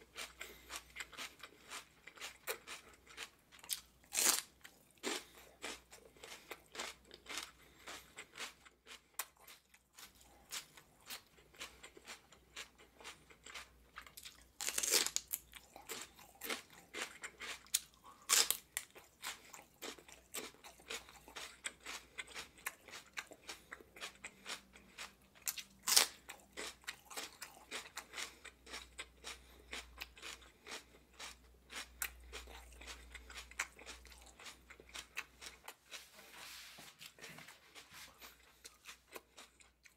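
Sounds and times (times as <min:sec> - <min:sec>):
celery crunching while chewed: 0:00.0 - 0:39.9.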